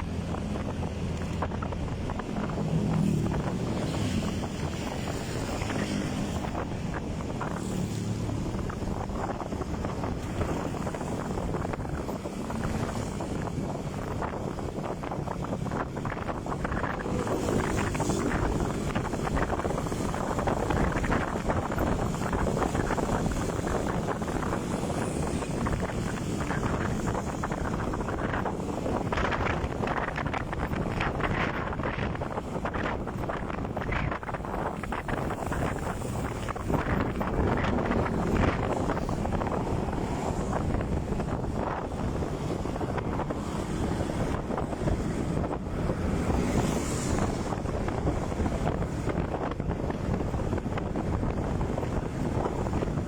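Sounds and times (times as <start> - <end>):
motorcycle engine rumble: 0.0 - 53.0
wind buffeting microphone: 0.0 - 53.0.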